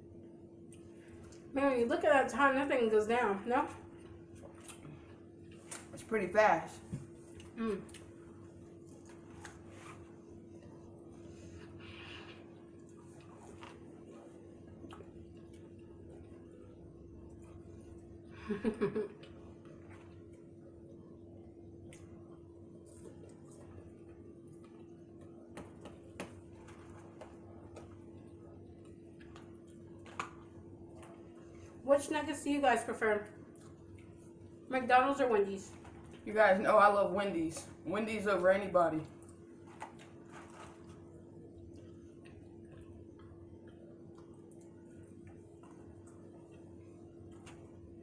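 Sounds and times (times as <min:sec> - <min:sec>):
steady low hum: 0:00.0 - 0:48.0
soft chewing: 0:00.3 - 0:01.5, 0:03.7 - 0:06.0, 0:06.8 - 0:31.8, 0:33.2 - 0:34.7, 0:39.0 - 0:48.0.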